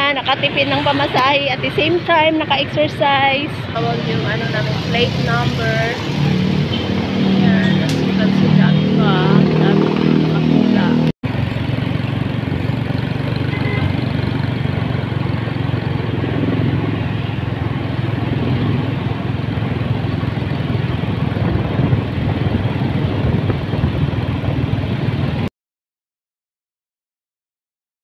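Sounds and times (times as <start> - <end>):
street traffic rumble: 0.0 - 25.5.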